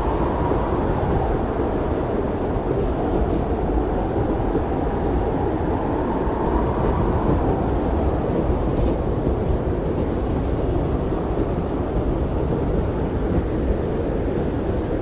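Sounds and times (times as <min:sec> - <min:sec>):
blizzard wind rushing: 0:00.0 - 0:15.0
faint wind whistle: 0:00.0 - 0:15.0.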